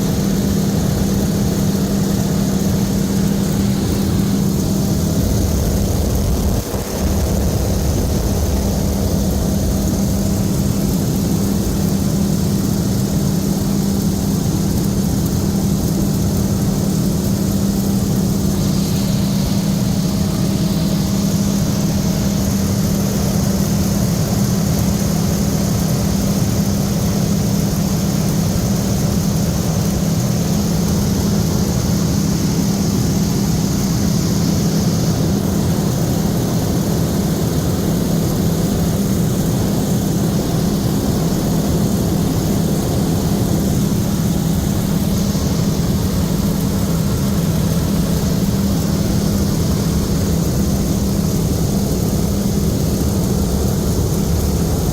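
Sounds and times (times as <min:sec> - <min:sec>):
radial aircraft engine and propeller: 0:00.0 - 0:54.9.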